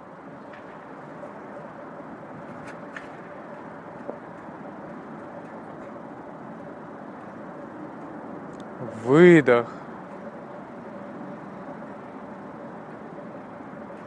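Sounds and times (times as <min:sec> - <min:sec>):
faint steady hum: 0:00.0 - 0:14.0
steady rushing noise: 0:00.0 - 0:14.0.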